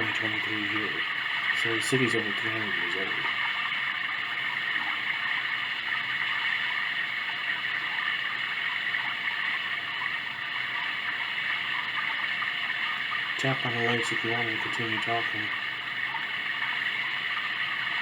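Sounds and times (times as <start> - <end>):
rushing water-like noise: 0.0 - 18.0.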